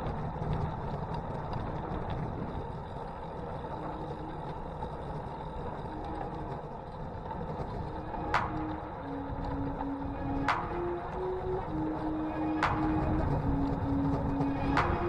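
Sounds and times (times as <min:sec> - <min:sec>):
bicycle tyres rolling on tarmac: 0:00.0 - 0:15.0
wind noise on microphone: 0:00.0 - 0:15.0.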